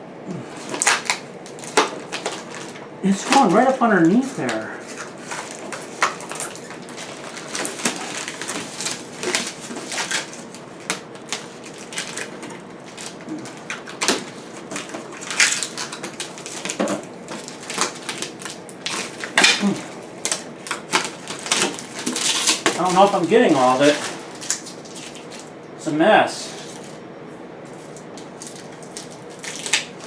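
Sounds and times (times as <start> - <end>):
plastic film being peeled off: 0.5 - 25.5, 27.7 - 30.0.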